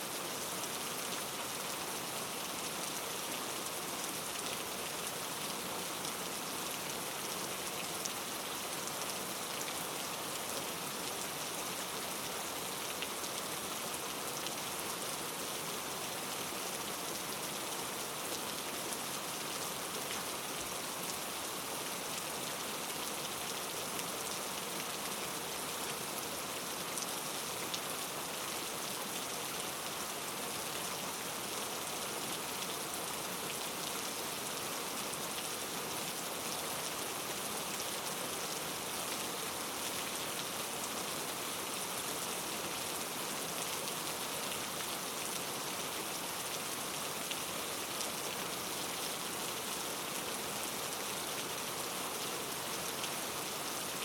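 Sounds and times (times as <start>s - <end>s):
dense rainfall: 0.0s - 54.0s.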